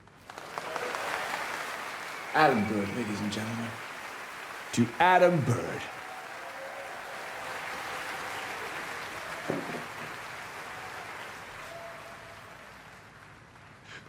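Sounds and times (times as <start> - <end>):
applause: 0.0 - 14.0.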